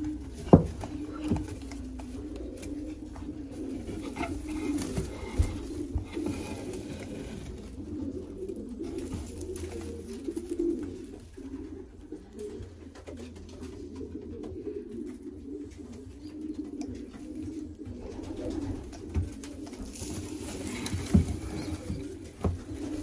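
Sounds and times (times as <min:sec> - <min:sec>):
straw rustling: 0:00.0 - 0:12.5, 0:15.9 - 0:23.0
pigeons cooing: 0:00.0 - 0:23.0.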